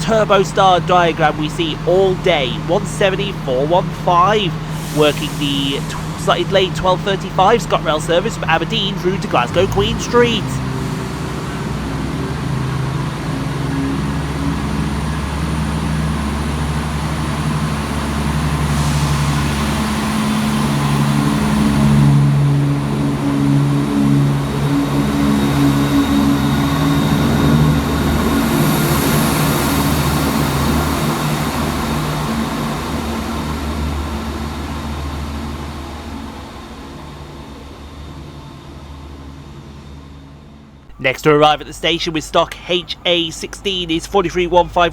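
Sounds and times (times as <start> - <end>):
diesel train engines running: 0.0 - 40.2, 40.9 - 44.9.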